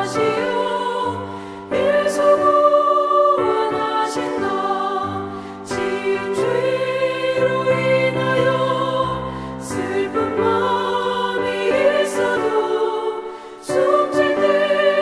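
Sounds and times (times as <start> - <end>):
hymn singing: 0.0 - 15.0.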